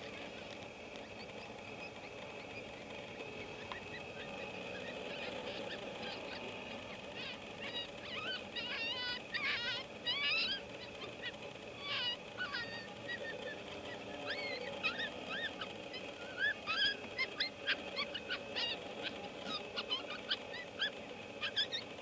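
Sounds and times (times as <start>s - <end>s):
coyotes yipping and howling: 0.0s - 22.0s.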